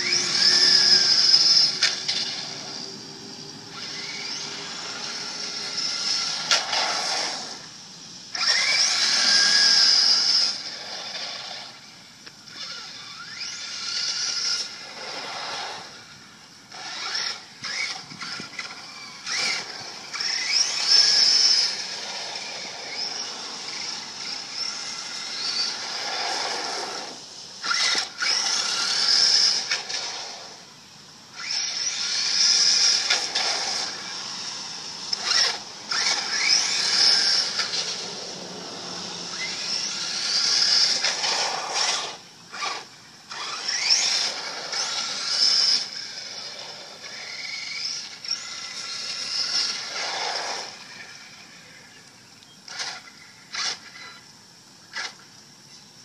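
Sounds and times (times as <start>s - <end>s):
toy truck electric motor whining: 0.0s - 55.8s.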